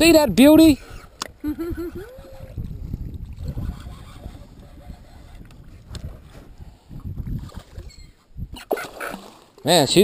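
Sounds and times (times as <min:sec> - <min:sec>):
wind buffeting microphone: 0:00.0 - 0:08.9.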